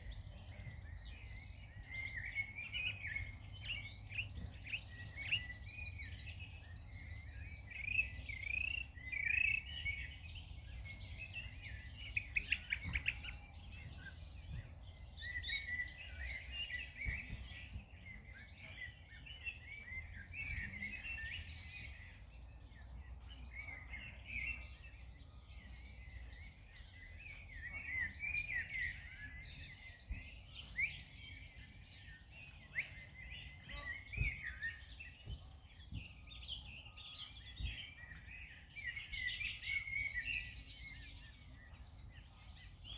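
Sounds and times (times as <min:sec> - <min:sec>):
songbirds chirping: 0:00.0 - 0:42.9.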